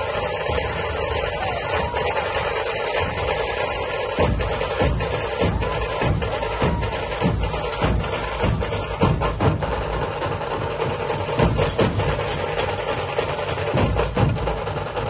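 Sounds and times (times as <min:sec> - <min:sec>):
deep drum beats: 0:00.0 - 0:15.0
fast sharp drum strokes: 0:00.0 - 0:15.0.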